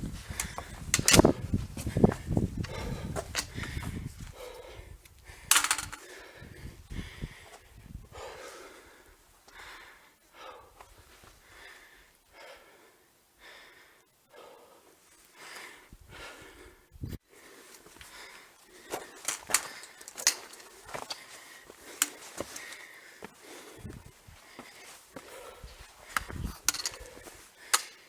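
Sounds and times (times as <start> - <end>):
person breathing hard: 0.1 - 28.0.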